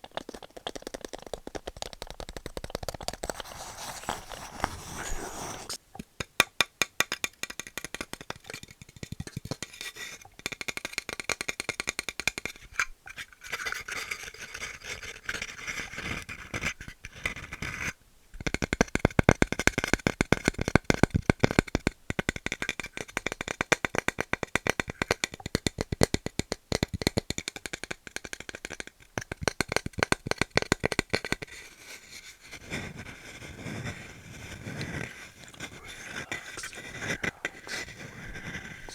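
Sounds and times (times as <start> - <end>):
wood tapped and scratched: 0.6 - 38.9.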